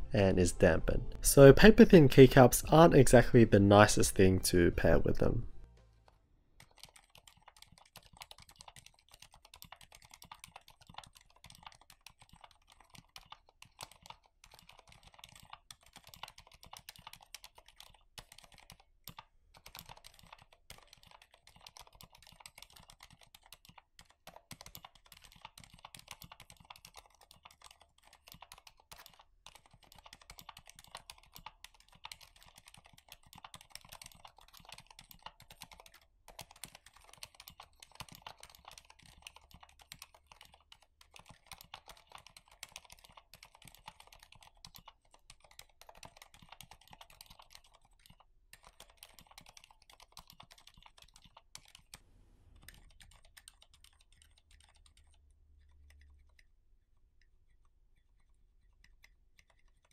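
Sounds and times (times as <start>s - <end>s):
soft mechanical keyboard typing: 0.2s - 59.9s.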